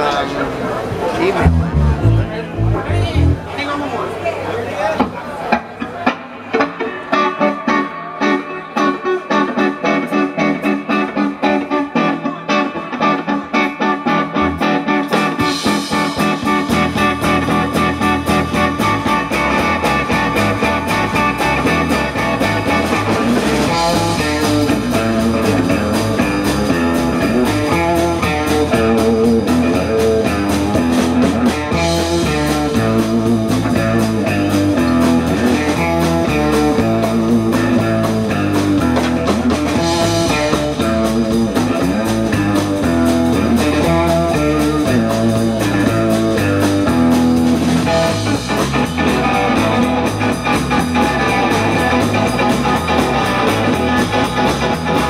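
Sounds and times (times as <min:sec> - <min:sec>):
electric guitar: 0:00.0 - 0:03.6, 0:05.0 - 0:55.0
blues band playing: 0:00.0 - 0:03.9, 0:05.5 - 0:55.0
bass and drums: 0:01.2 - 0:03.6, 0:09.4 - 0:55.0.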